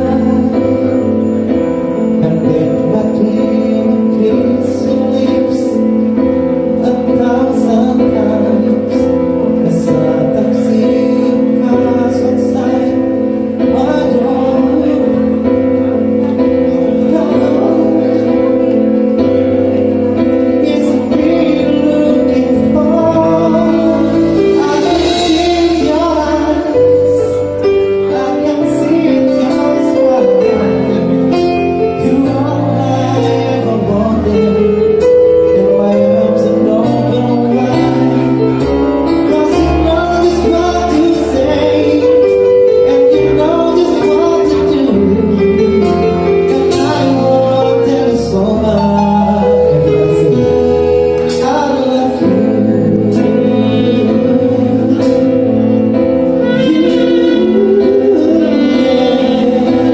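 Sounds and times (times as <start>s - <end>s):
live band playing: 0.0s - 59.9s
person singing: 0.0s - 59.9s.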